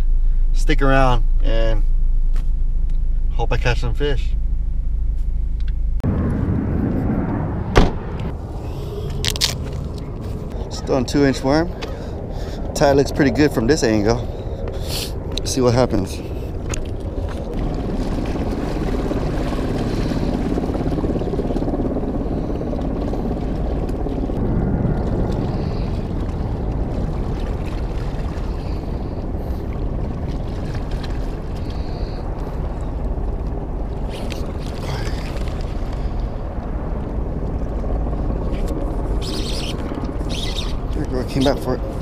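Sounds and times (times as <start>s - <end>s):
wind buffeting microphone: 6.0s - 42.0s.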